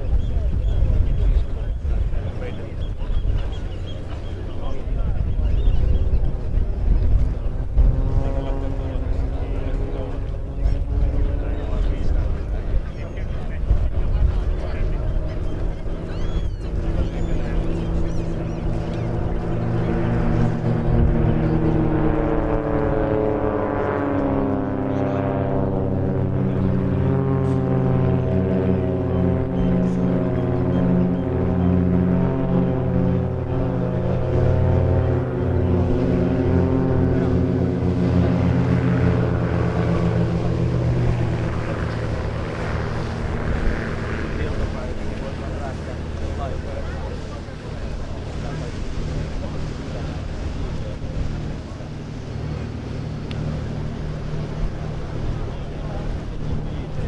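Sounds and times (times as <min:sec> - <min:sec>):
biplane engines droning overhead: 0:00.0 - 0:57.0.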